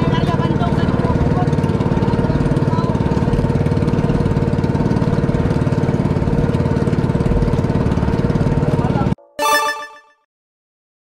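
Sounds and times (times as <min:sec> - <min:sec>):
small boat engine running: 0:00.0 - 0:09.2.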